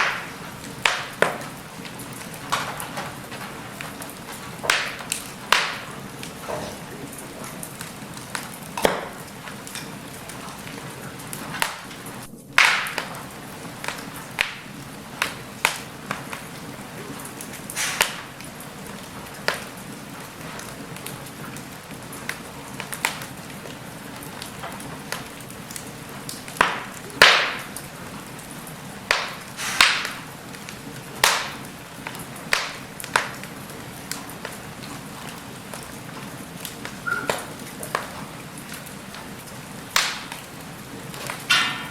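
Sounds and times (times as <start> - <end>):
fire popping and snapping: 0.0 - 41.9
wood fire crackling: 0.0 - 41.9.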